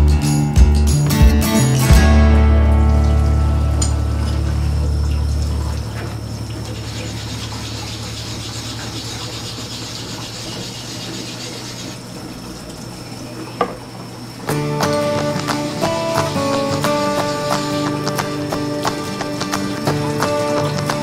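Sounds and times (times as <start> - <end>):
tap water splashing into sink: 1.9 - 21.0.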